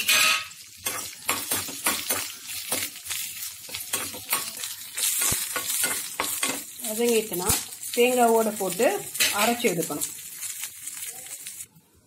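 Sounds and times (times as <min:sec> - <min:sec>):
seeds sizzling in hot oil: 0:00.0 - 0:11.8.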